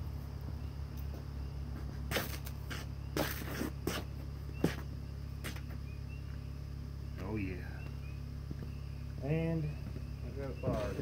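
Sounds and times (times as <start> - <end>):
steady low hum: 0.0 - 11.0
boots on concrete: 1.0 - 6.5, 7.1 - 11.0.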